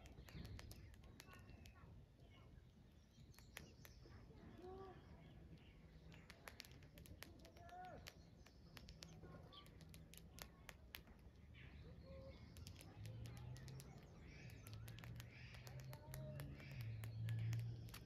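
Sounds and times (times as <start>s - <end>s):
sharp clicks: 0.0s - 1.8s, 3.2s - 4.2s, 5.5s - 11.6s, 12.3s - 18.0s
birds chirping and calling: 0.0s - 2.0s, 2.8s - 18.0s.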